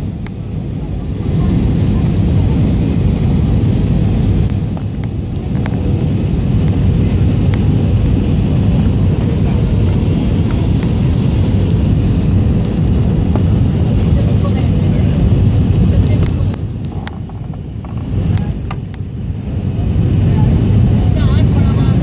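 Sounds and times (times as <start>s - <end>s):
jet engines and rushing air: 0.0s - 22.0s.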